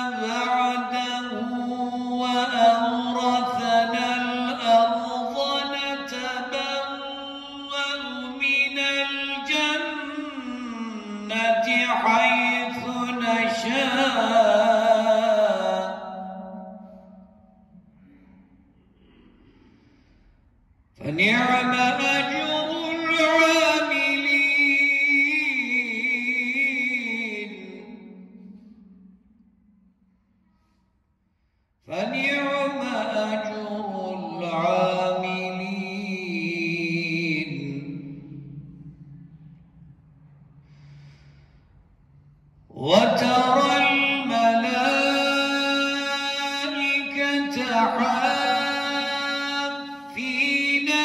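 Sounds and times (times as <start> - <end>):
man chanting recitation: 0.0 - 17.9, 21.0 - 28.8, 31.8 - 39.7, 42.7 - 51.0.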